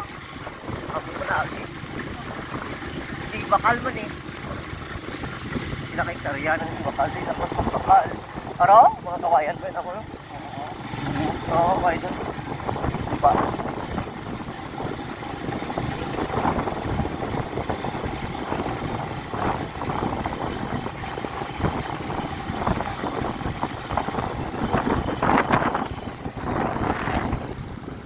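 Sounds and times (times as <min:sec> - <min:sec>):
wind noise on microphone: 0:00.0 - 0:09.4, 0:11.1 - 0:28.0
small motorcycle engine running: 0:00.0 - 0:28.0.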